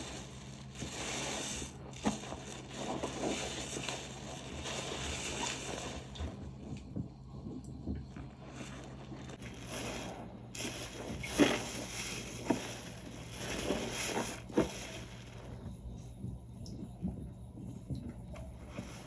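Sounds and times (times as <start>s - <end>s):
soap suds squished by hand: 0.0s - 17.2s.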